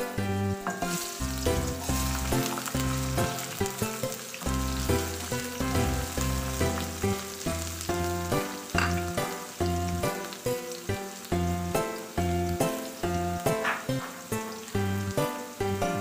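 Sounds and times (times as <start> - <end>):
background music: 0.0 - 16.0
onion sizzling in oil: 0.0 - 16.0.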